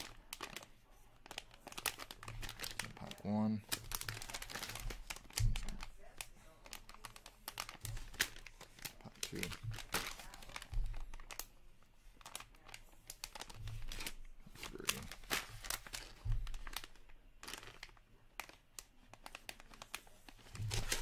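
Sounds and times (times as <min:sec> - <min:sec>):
plastic pouch crinkling: 0:00.0 - 0:21.0.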